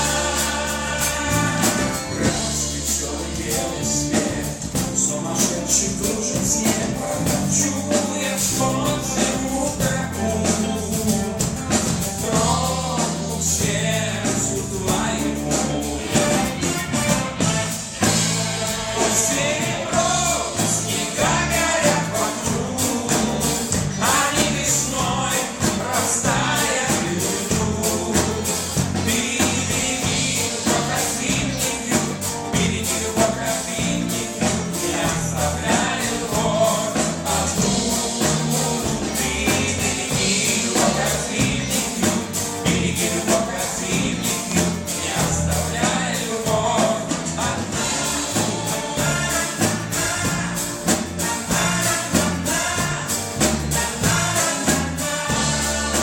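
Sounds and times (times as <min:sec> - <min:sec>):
lead singer singing: 0:00.0 - 0:56.0
live band playing: 0:00.0 - 0:56.0
percussion beat: 0:00.0 - 0:56.0.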